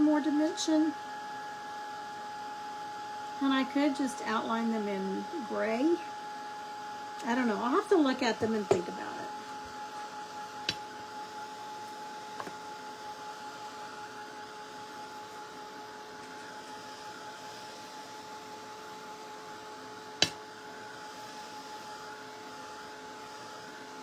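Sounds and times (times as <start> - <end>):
steady hum: 0.0 - 18.8, 20.0 - 21.5.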